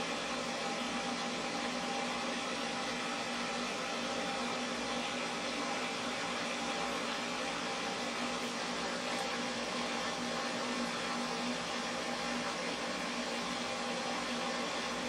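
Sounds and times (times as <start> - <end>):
dryer blowing air: 0.0 - 15.0.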